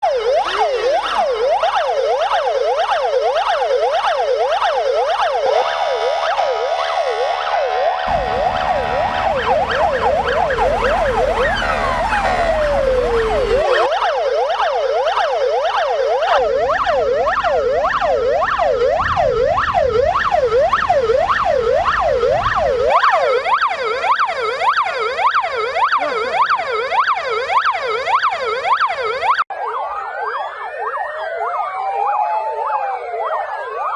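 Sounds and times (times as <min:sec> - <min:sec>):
emergency vehicle sirens yelping: 0:00.0 - 0:33.9.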